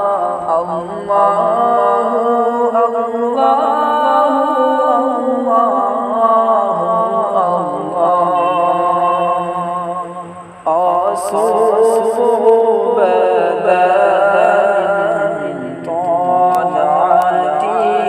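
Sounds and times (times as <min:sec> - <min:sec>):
voices chanting held notes: 0:00.0 - 0:18.0.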